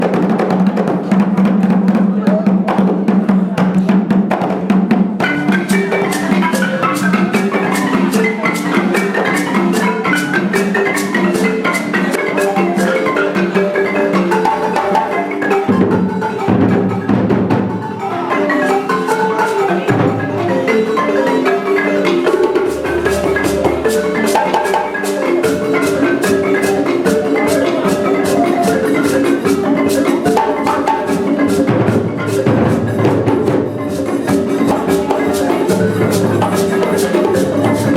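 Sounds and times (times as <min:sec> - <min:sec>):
percussion: 0:00.0 - 0:37.9
xylophone-like mallet notes: 0:00.0 - 0:37.9
sharp percussion strokes: 0:02.9 - 0:37.9.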